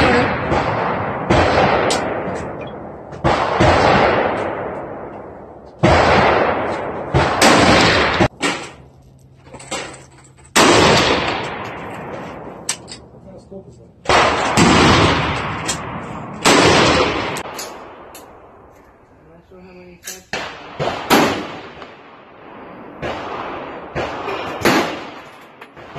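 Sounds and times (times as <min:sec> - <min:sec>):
rifle shots with echo: 0:00.0 - 0:08.8, 0:10.6 - 0:12.7, 0:14.0 - 0:18.7, 0:20.3 - 0:25.9.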